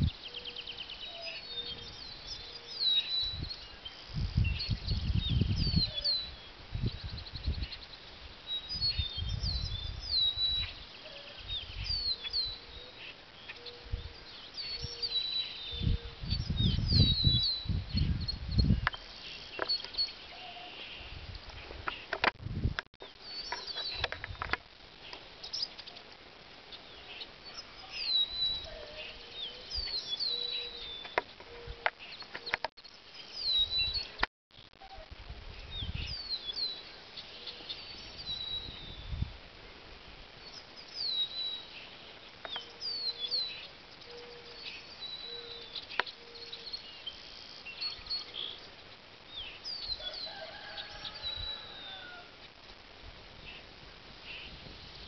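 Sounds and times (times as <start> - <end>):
lower curved bird calls: 0.0 - 22.2, 26.7 - 34.2, 34.8 - 39.3, 40.4 - 52.8
songbird singing: 0.0 - 22.3, 23.0 - 55.0.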